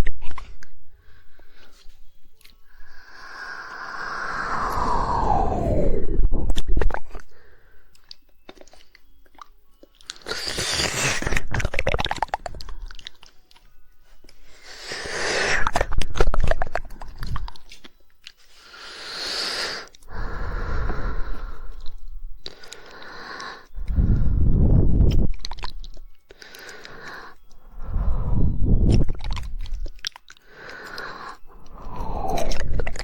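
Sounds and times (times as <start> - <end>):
wet tongue clicking: 1.4 - 5.5, 6.3 - 33.0.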